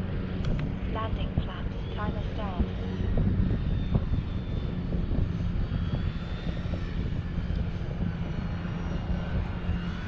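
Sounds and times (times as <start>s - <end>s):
gusty wind buffeting microphone: 0.0s - 10.0s
model plane electric motor whine: 0.0s - 10.0s.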